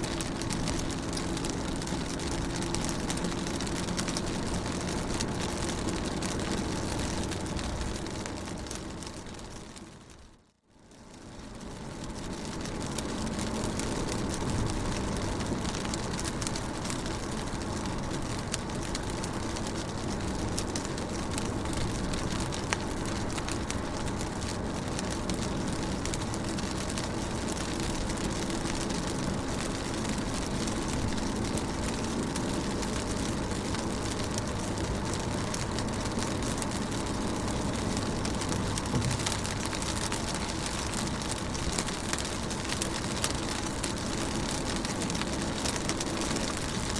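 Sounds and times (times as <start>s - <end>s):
low steady rumble: 0.0s - 46.9s
rain on car window: 0.0s - 46.9s.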